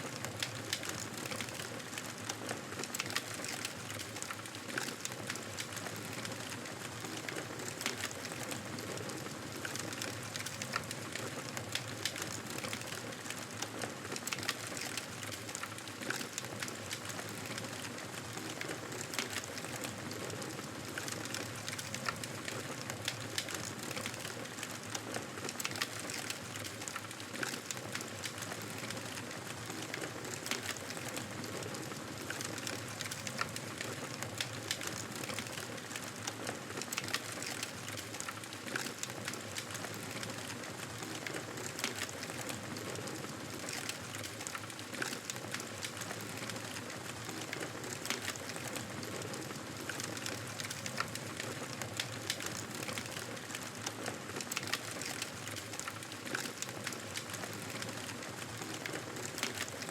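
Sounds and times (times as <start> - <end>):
wood fire hissing and crackling: 0.0 - 59.9.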